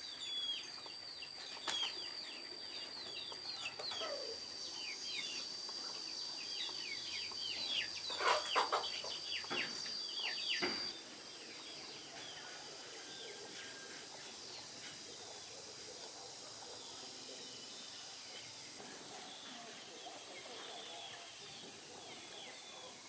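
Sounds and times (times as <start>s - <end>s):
birds chirping: 0.0s - 23.0s
faint outdoor background: 0.0s - 23.0s.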